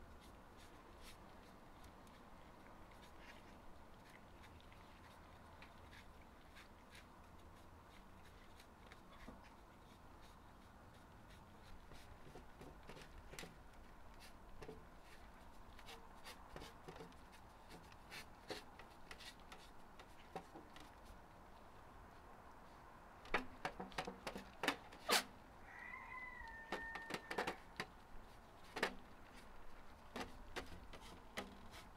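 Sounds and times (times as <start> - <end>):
cats licking and chewing: 0.0 - 31.9.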